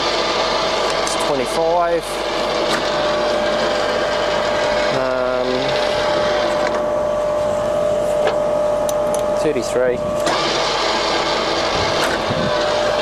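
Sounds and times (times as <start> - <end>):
lathe motor hum with whine: 0.0 - 13.0.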